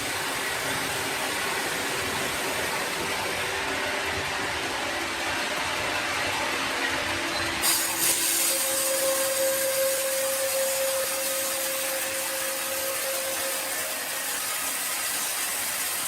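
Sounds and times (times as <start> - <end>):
steady whine: 0.0 - 14.4
power saw cutting wood: 0.0 - 16.0.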